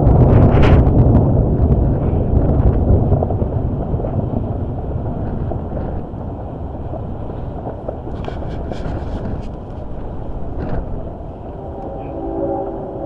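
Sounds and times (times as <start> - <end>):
faint crackles: 0.0 - 13.0
wind buffeting microphone: 0.0 - 13.0.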